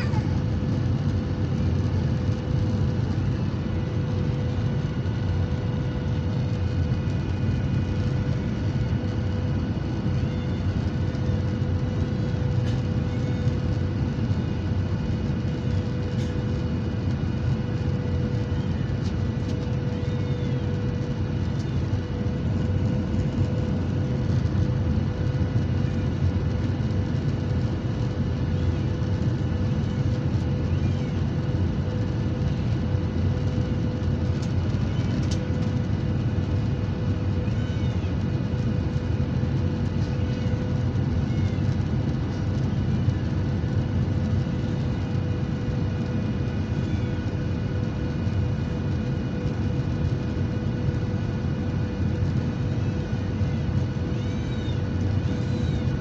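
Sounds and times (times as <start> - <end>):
constant cabin hum: 0.0 - 56.0
jet cabin engine and airflow rush: 0.0 - 56.0.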